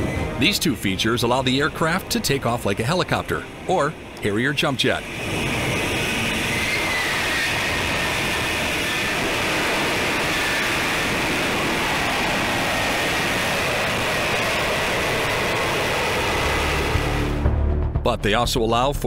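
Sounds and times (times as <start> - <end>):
jet engine roar: 0.0 - 17.5
high whine: 0.0 - 18.9.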